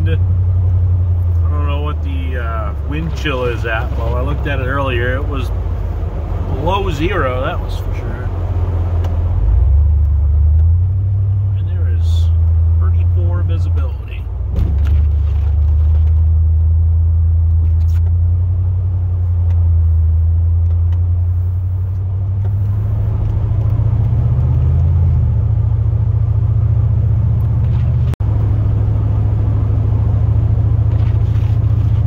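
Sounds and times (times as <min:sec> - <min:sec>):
truck engine drone inside cab: 0:00.0 - 0:32.0.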